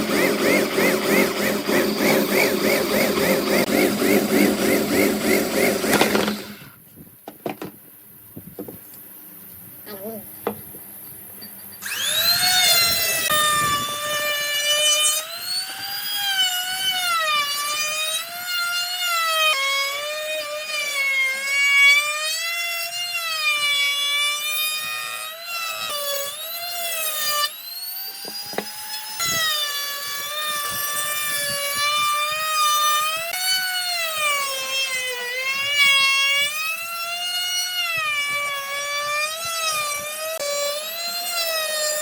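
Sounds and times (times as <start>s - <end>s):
power tool whining through wood: 0.0s - 6.8s, 11.8s - 42.0s.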